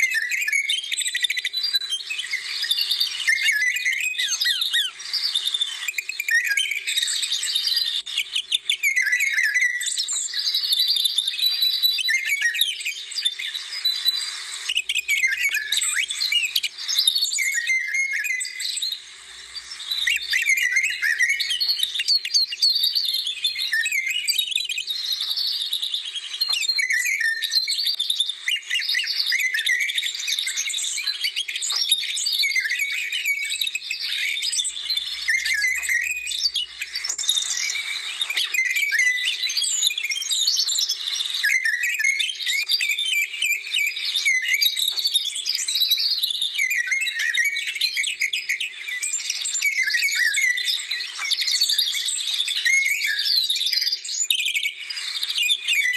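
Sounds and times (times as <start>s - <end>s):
songbirds chirping chorus: 0.0s - 55.9s.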